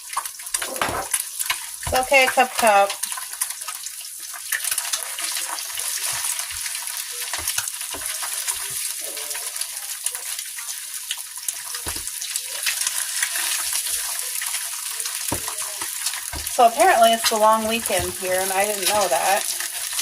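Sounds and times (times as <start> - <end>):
crackles and pops: 0.0 - 20.0
eggs sizzling in a pan: 0.0 - 20.0.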